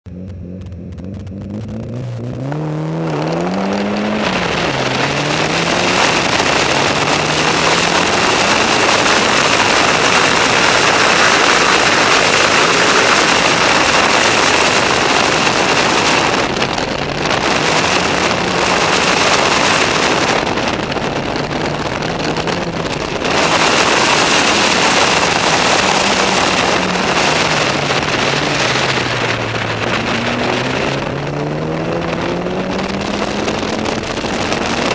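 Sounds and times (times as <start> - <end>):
car engine accelerating hard: 0.0 - 34.9
gravel noise: 0.1 - 34.9
wind noise: 0.1 - 34.9.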